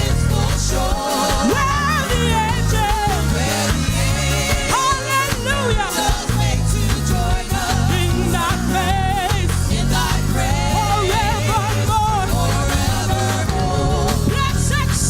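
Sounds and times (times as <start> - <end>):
choir singing gospel: 0.0 - 15.0
drums: 0.0 - 15.0
electric bass: 0.0 - 15.0.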